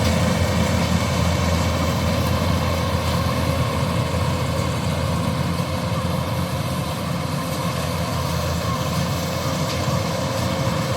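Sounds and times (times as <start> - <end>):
combine harvester engine drone: 0.0 - 10.9.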